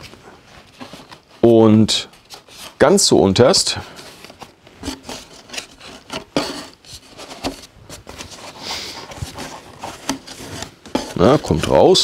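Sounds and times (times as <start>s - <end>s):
hands rummaging in cardboard box: 0.0s - 1.5s, 3.7s - 12.0s
plastic parts scraping cardboard: 0.0s - 3.1s, 3.7s - 12.0s.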